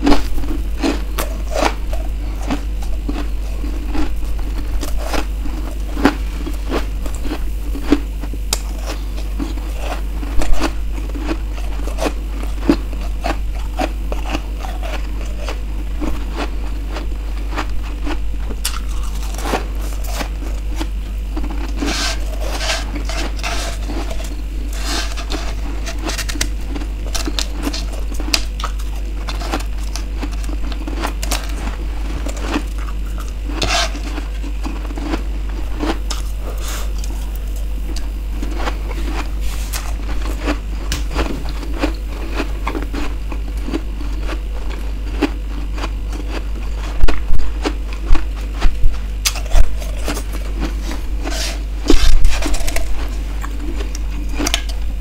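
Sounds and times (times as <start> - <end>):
crunching and chewing frost: 0.0 - 55.0
low hum: 0.0 - 55.0.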